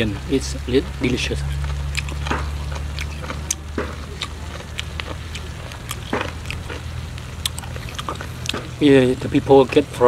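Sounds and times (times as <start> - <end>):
low hum: 0.0 - 10.0
chewing clicks and smacks: 1.0 - 9.8.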